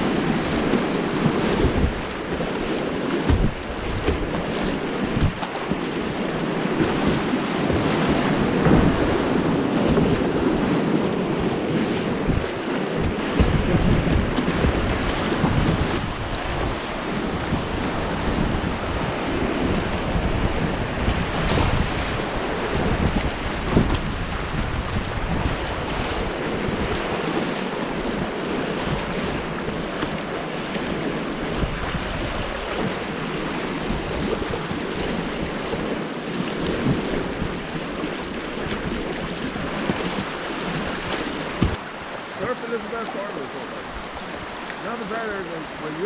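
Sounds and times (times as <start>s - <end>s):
rushing river water: 0.0s - 46.0s
wind buffeting microphone: 0.0s - 46.0s.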